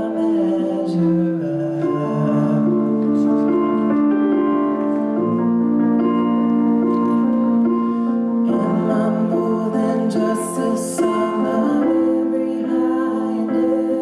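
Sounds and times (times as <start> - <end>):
keyboard playing slow chords: 0.0 - 14.0.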